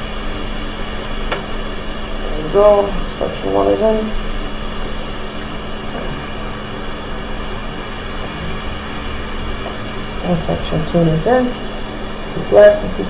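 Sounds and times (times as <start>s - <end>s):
hot air blower hissing: 0.0s - 13.0s
low constant hum: 0.0s - 13.0s.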